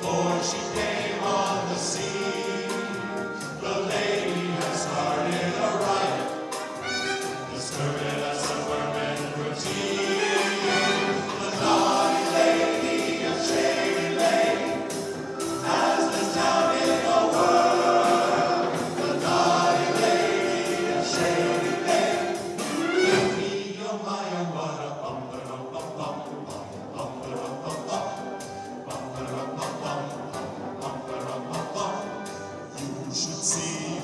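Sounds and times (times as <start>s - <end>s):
men singing in harmony: 0.0s - 34.0s.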